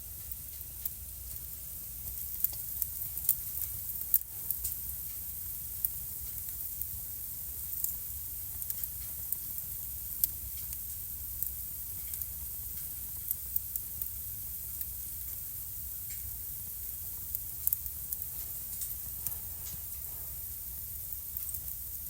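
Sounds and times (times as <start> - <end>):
wood fire crackling: 0.0 - 22.0
fire pops and snaps: 0.2 - 22.0.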